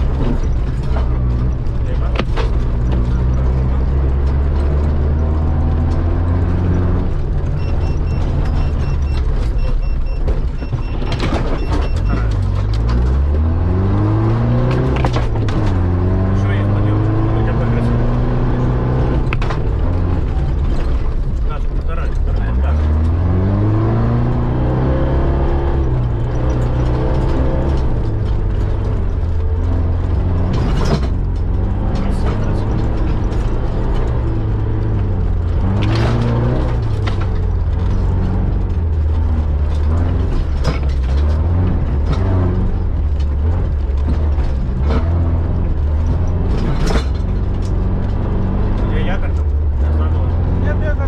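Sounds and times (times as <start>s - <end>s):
sharp knocks over bumps: 0.0s - 50.6s
body and suspension rattling: 0.0s - 51.0s
vehicle engine revving: 0.0s - 51.0s.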